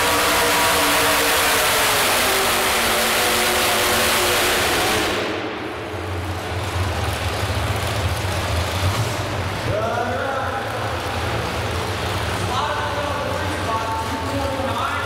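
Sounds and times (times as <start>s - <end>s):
engine idle rumble: 0.0s - 15.0s
truck engine at full throttle: 0.0s - 15.0s.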